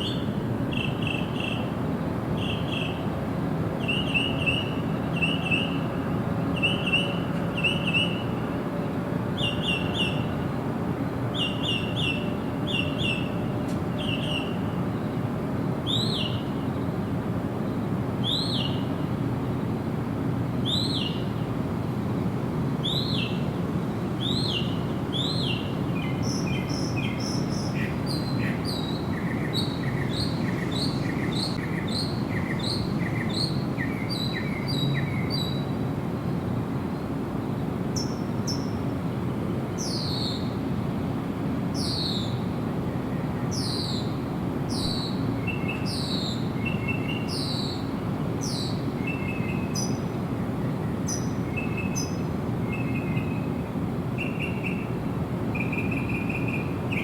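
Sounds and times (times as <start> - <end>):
songbirds calling: 0.0 - 3.1, 3.8 - 10.5, 11.3 - 16.8, 17.7 - 19.6, 20.6 - 21.5, 22.8 - 23.5, 24.1 - 40.6, 41.7 - 57.0.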